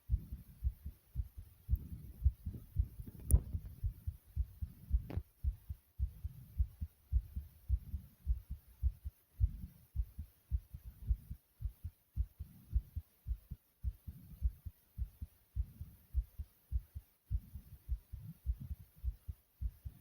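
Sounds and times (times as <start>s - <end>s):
fast thumping heartbeat: 0.0s - 20.0s.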